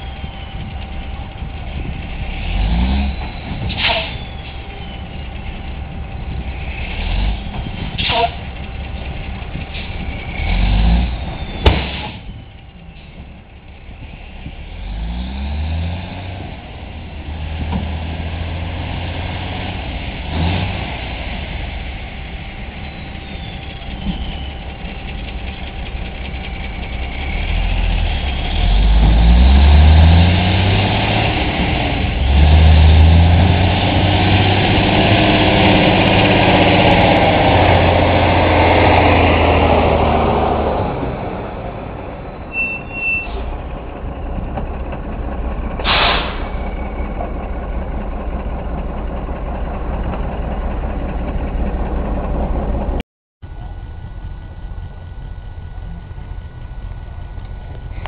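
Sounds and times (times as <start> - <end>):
diesel truck engine revving: 0.0 - 12.6, 13.7 - 53.0.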